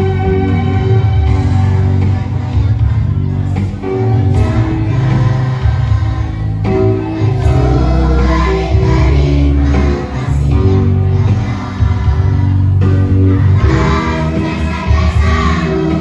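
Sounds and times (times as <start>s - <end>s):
bass-heavy musical accompaniment: 0.0s - 16.0s
children's choir singing: 1.2s - 16.0s.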